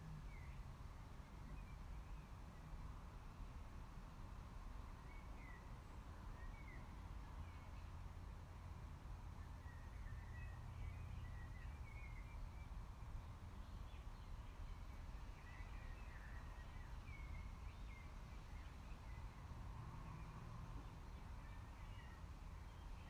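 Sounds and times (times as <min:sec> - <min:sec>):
small birds chirping: 0:00.1 - 0:02.8, 0:05.0 - 0:08.7, 0:09.4 - 0:23.0.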